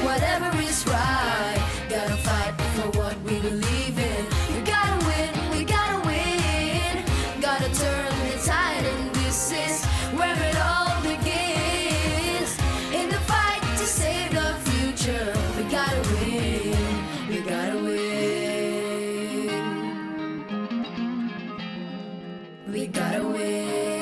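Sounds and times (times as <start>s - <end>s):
person singing vocal runs: 0.0s - 20.2s
pop backing track: 0.0s - 21.6s.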